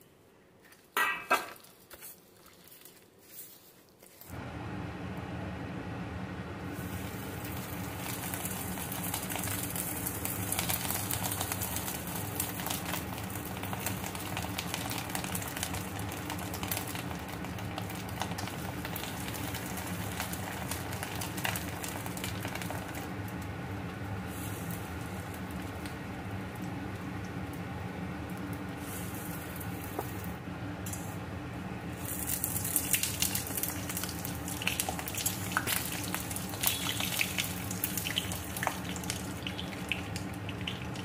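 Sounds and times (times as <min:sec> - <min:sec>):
steady low hum: 0:04.3 - 0:41.0
hot oil sizzling and crackling: 0:06.6 - 0:31.2, 0:31.9 - 0:41.0.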